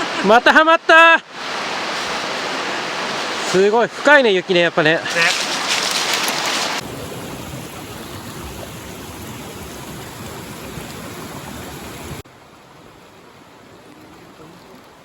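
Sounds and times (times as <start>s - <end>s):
mountain stream running: 0.0s - 15.0s.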